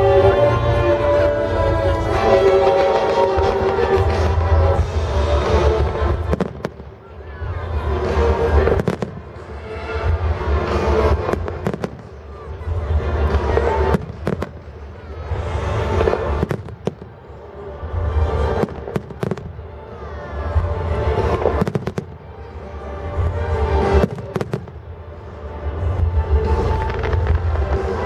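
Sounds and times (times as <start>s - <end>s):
fireworks bangs and crackles: 0.0s - 28.0s
loud music: 0.0s - 28.0s.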